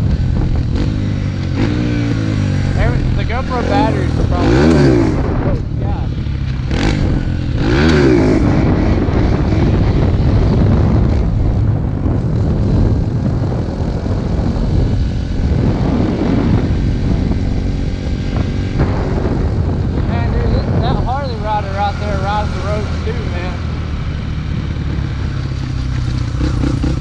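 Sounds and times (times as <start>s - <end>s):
dirt bike engine running: 0.0s - 27.0s
heavy low rumble: 0.0s - 27.0s.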